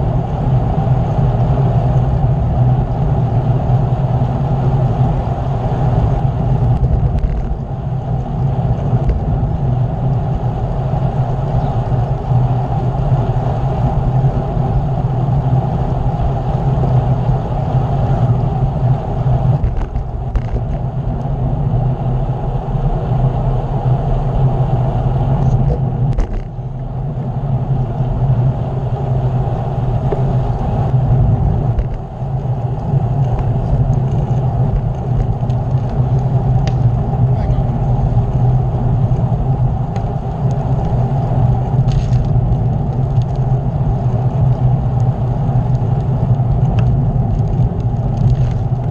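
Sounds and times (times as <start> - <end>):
bicycle tyre noise: 0.0 - 48.9
wind on microphone: 0.0 - 48.9.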